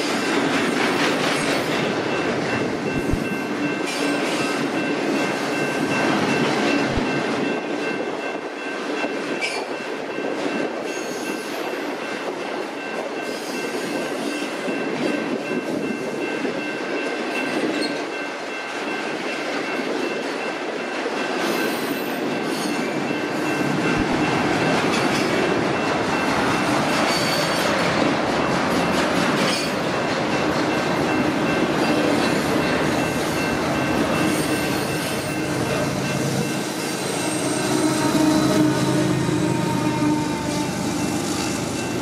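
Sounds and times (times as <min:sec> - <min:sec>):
steel wheels rumbling on rail: 0:00.0 - 0:42.0.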